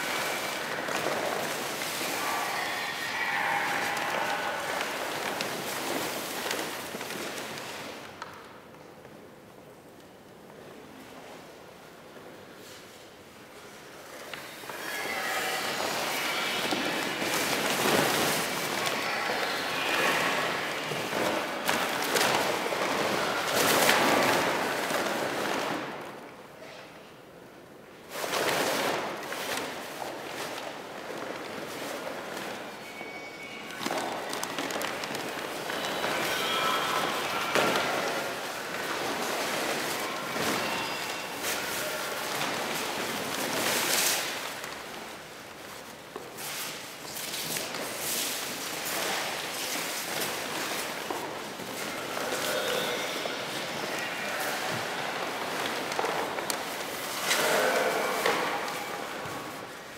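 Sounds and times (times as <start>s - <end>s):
paper crumpling and rustling: 0.0s - 8.1s, 14.8s - 26.2s, 28.1s - 59.9s.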